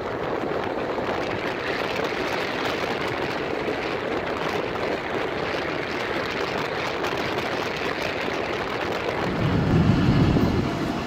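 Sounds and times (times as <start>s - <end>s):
passenger train running noise: 0.0s - 11.0s.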